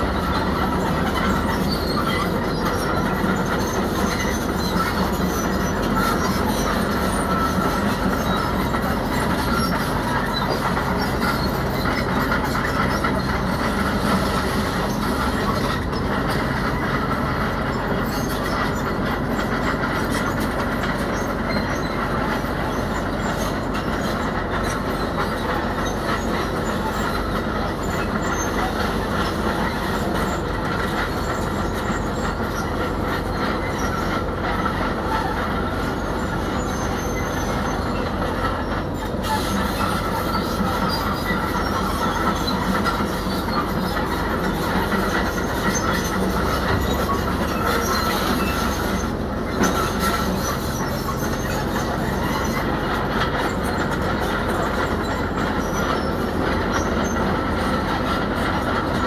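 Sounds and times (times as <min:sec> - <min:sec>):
diesel engine under load: 0:00.0 - 0:59.0
metal tracks clanking and squealing: 0:00.0 - 0:59.0.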